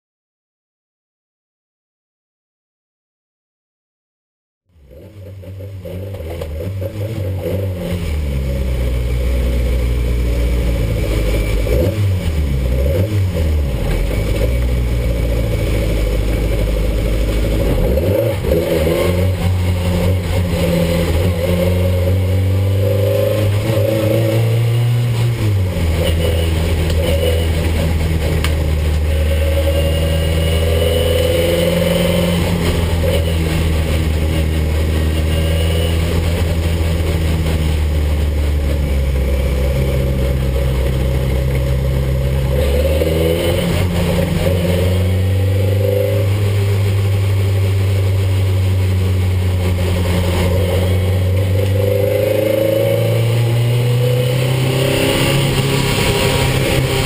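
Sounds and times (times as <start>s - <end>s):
racing car engine revving: 4.8s - 57.0s.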